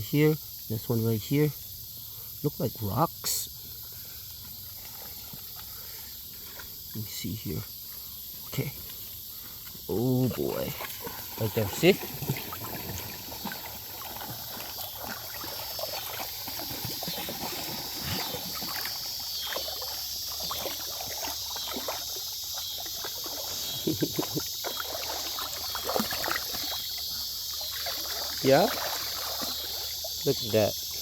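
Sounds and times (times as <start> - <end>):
creek water splashing and trickling: 0.0 - 31.0.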